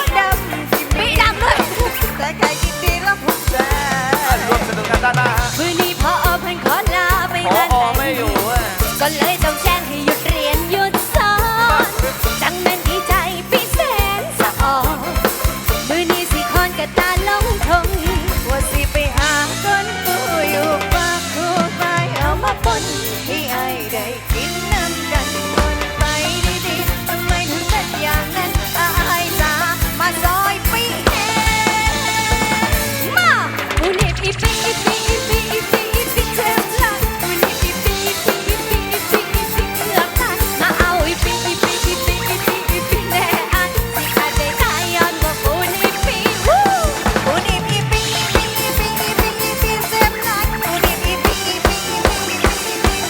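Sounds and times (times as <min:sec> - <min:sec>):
bass: 0:00.0 - 0:53.0
drum kit beat: 0:00.0 - 0:53.0
live band music: 0:00.0 - 0:53.0
sliding melodic lead line: 0:00.0 - 0:53.0.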